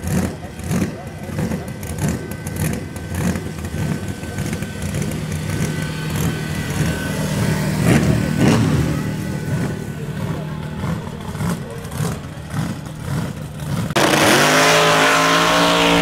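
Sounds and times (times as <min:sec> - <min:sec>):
race car engine running: 0:00.0 - 0:16.0.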